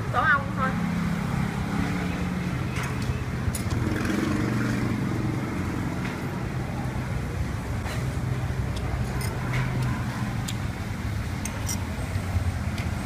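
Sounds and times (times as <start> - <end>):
street traffic engines: 0.0 - 13.0.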